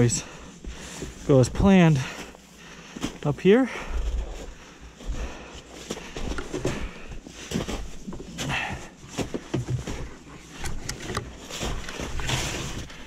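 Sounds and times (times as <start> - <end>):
snow crunching and scraping: 0.0 - 10.6, 11.3 - 13.0.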